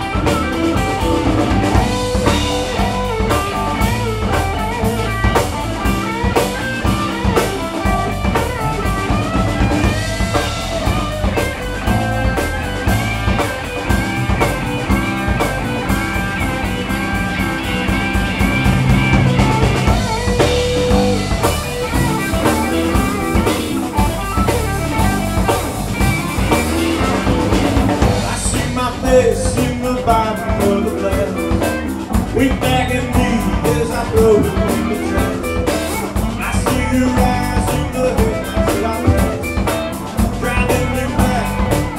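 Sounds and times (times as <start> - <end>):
bass guitar: 0.0 - 41.9
drum kit beat: 0.0 - 41.9
lead electric guitar: 0.0 - 41.9.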